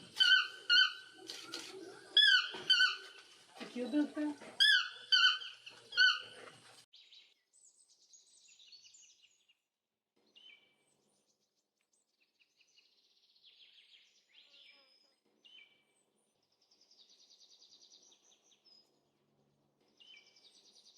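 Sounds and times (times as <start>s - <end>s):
faint birdsong: 0.0s - 20.9s.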